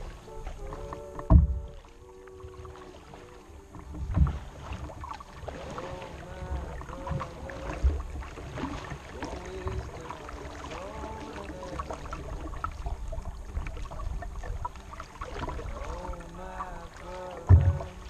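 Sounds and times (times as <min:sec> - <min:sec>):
low thumps of paddle strokes: 0:00.0 - 0:18.0
soft paddle splashes: 0:00.0 - 0:18.0
water dripping off paddle: 0:00.0 - 0:18.0.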